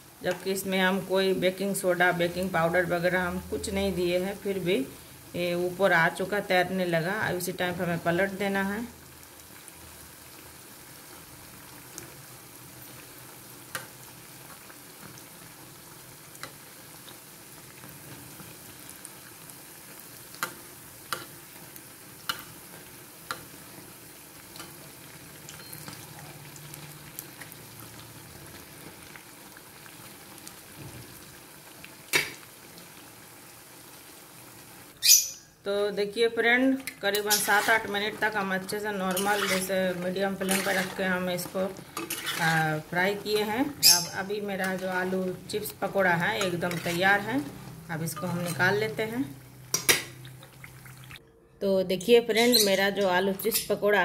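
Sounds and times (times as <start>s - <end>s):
food sizzling in oil: 0.0s - 51.2s.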